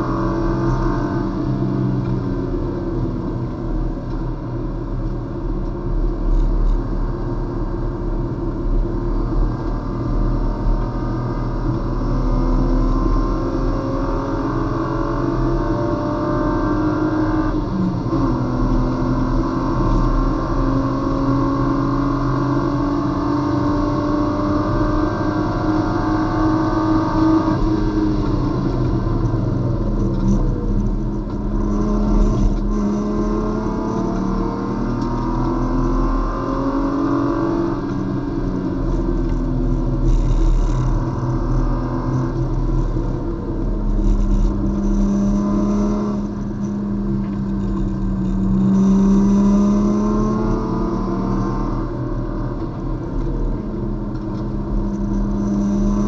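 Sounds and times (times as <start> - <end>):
race car engine revving: 10.0 - 56.0.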